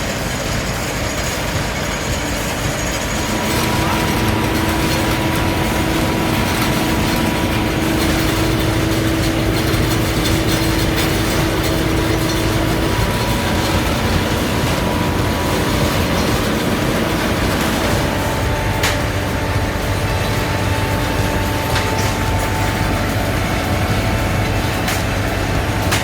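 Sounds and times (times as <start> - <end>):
heavy farm machinery running: 0.0 - 26.0.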